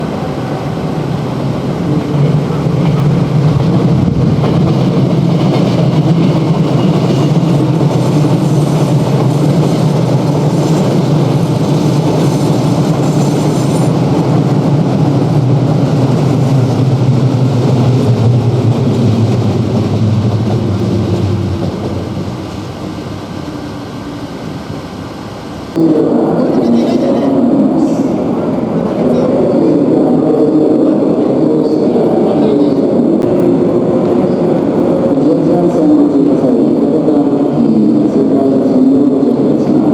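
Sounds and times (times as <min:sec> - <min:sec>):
train humming: 0:00.0 - 0:39.9.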